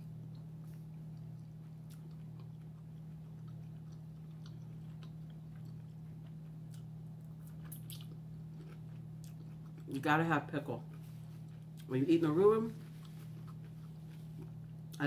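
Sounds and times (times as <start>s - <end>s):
steady low hum: 0.0s - 15.0s
person chewing food: 0.1s - 10.0s, 10.8s - 11.9s, 12.8s - 15.0s.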